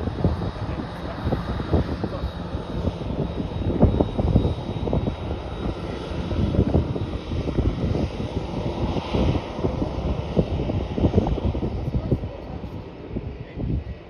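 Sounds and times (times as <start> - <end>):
jet airliner engine noise: 0.0 - 14.0
wind buffeting microphone: 0.0 - 14.0.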